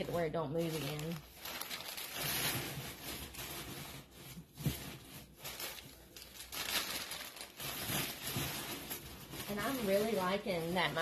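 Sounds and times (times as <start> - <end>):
wrapping paper rustling: 0.0 - 11.0.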